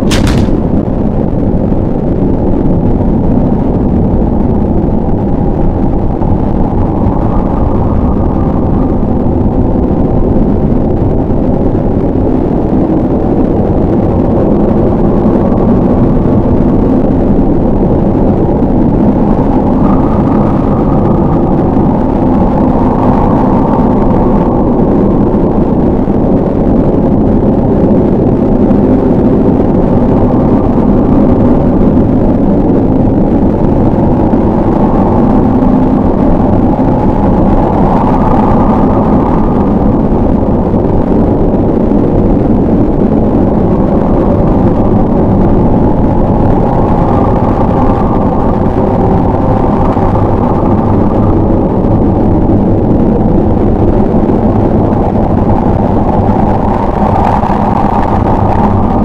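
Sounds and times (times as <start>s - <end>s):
loud low rumble: 0.0s - 59.0s.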